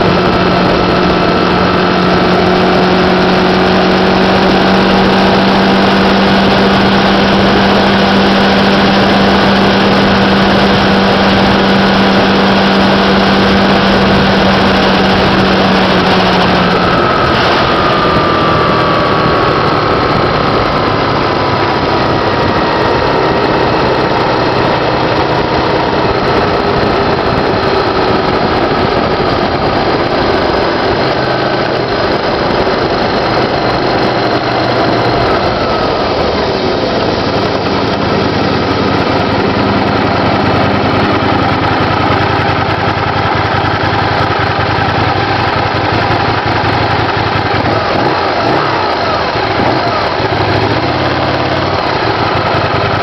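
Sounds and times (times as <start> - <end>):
motorcycle engine: 0.0 - 53.0
wind rushing over microphone: 0.0 - 53.0.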